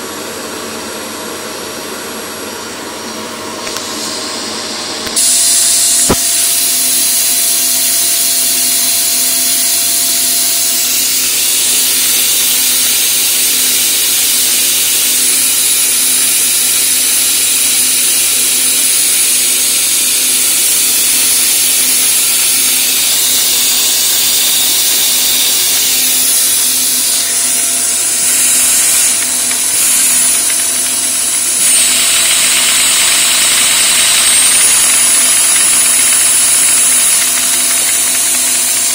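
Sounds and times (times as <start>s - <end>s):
vacuum cleaner hissing: 3.4s - 38.9s.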